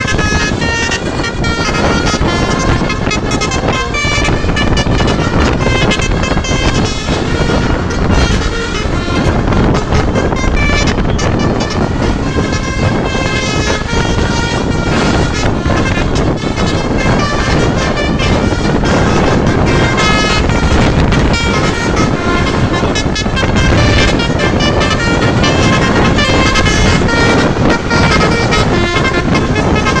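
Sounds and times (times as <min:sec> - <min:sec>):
bus musical horn tune: 0:00.0 - 0:30.0
engine and road rumble: 0:00.0 - 0:30.0.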